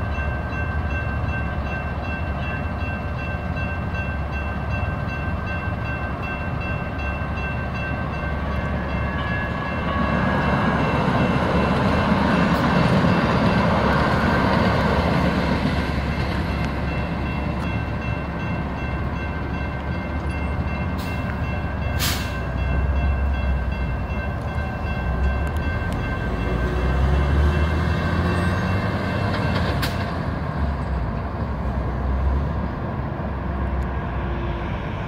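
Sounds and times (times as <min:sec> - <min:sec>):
railroad crossing bells ringing: 0:00.0 - 0:32.0.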